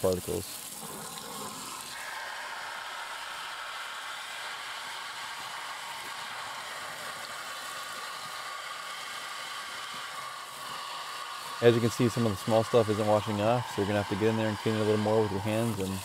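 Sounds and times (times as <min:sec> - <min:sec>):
sink sprayer water splashing: 0:00.0 - 0:16.0.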